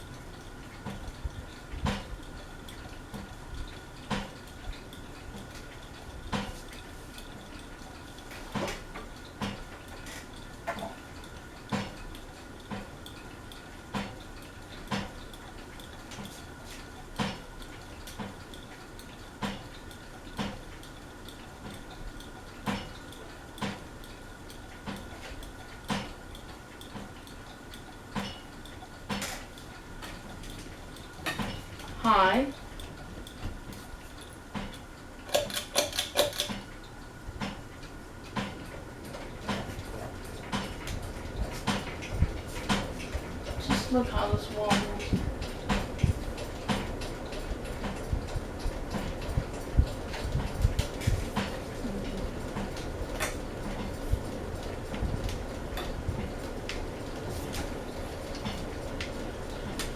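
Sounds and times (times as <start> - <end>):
ceiling fan clinking: 0.0 - 59.9
faint fan hum: 0.0 - 59.9.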